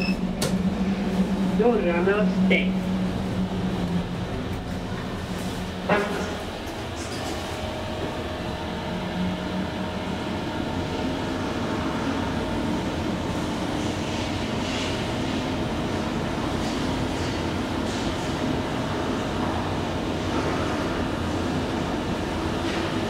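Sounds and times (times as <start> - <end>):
elevator running rumble: 0.0 - 23.0.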